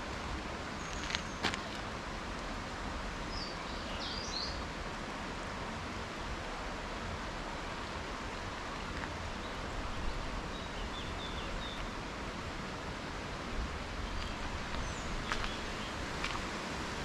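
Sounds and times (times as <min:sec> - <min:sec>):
steady rush of noise: 0:00.0 - 0:17.0.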